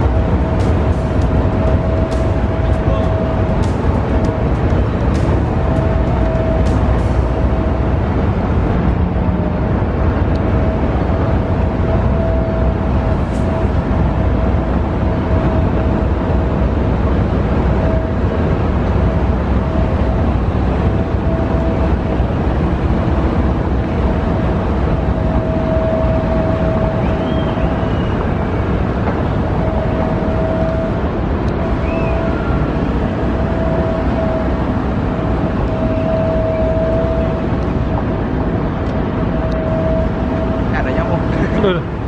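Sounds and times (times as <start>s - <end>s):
diesel locomotive engine rumble: 0.0s - 42.0s
high whine: 0.0s - 42.0s.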